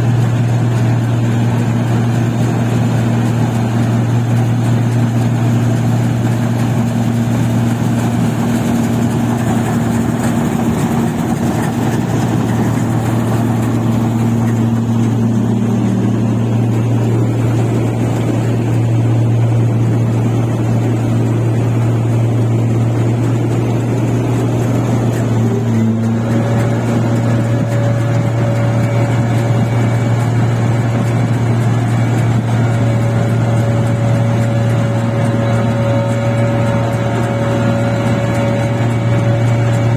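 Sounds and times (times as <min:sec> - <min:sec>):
high steady whine: 0:00.0 - 0:39.9
machine engine droning: 0:00.0 - 0:39.9.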